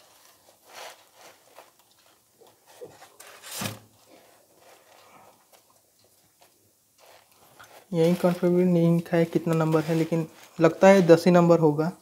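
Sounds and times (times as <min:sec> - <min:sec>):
shoe rustling against tissue paper: 0:00.0 - 0:05.7, 0:06.3 - 0:12.0.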